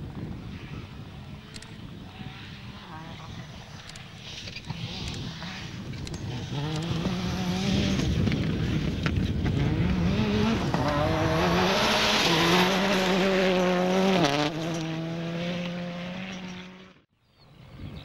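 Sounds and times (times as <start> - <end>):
rally car engine revving high: 1.2 - 17.0.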